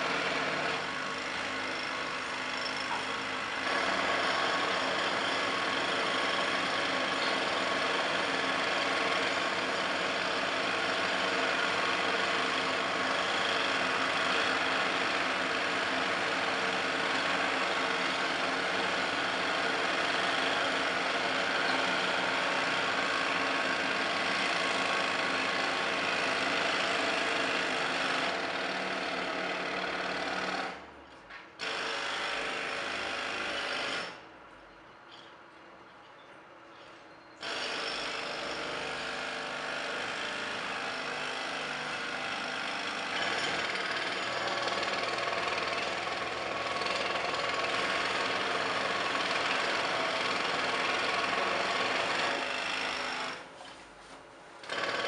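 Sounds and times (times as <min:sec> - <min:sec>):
jackhammers breaking concrete: 0:00.0 - 0:30.8, 0:37.4 - 0:53.4, 0:54.6 - 0:55.0.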